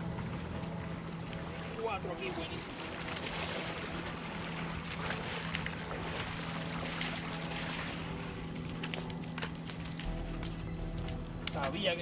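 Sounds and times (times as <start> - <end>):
shallow water sloshing and splashing: 0.0 - 11.8
steady low hum: 0.0 - 12.0.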